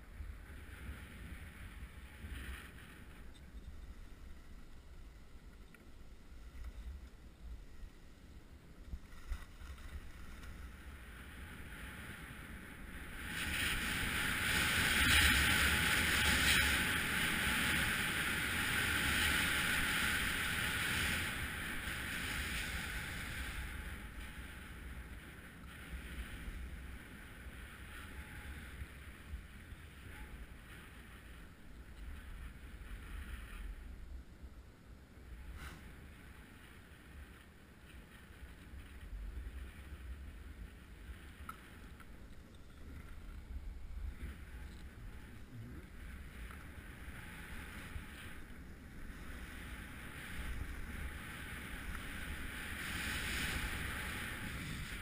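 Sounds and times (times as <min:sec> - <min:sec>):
skis sliding over snow: 0:00.0 - 0:34.1, 0:35.0 - 0:55.0
wind rumbling on microphone: 0:00.0 - 0:55.0.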